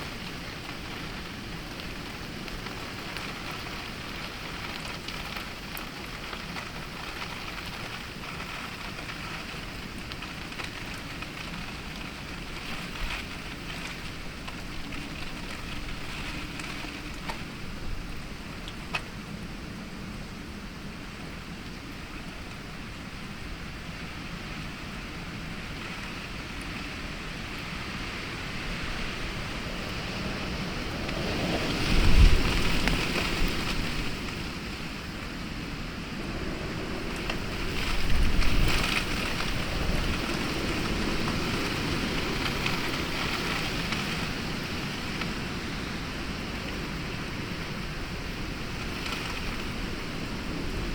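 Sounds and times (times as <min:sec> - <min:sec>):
heavy rain hiss: 0:00.0 - 0:50.9
wind: 0:00.0 - 0:50.9.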